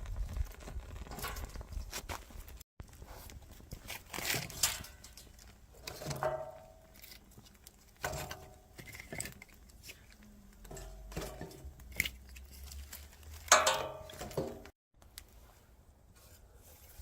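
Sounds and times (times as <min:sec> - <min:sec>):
things being handled: 0:01.0 - 0:17.0.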